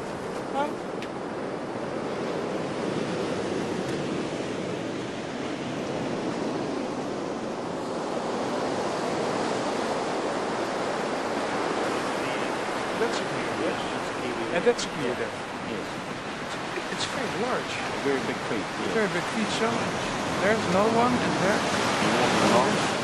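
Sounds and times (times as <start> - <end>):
waves breaking on a beach: 0.0 - 23.0.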